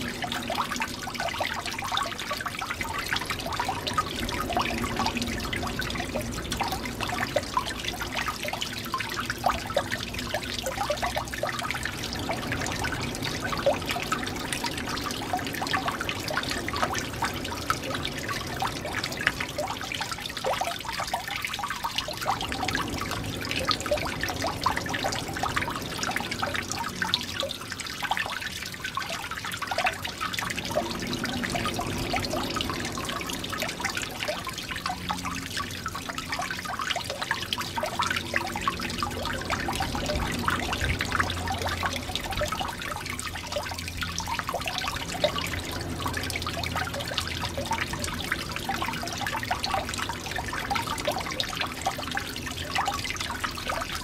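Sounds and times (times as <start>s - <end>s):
water dripping: 0.0s - 54.0s
water trickling: 0.0s - 54.0s.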